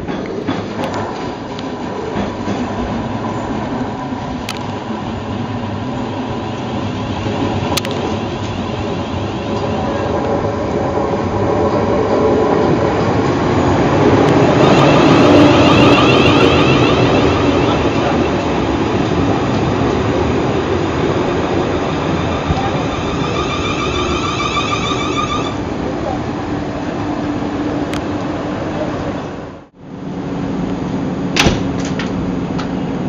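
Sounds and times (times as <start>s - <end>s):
electric train passing: 0.0s - 31.4s.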